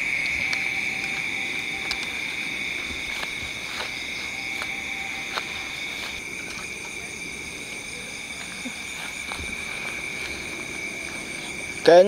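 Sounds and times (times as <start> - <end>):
crickets and frogs trilling: 0.0 - 12.0.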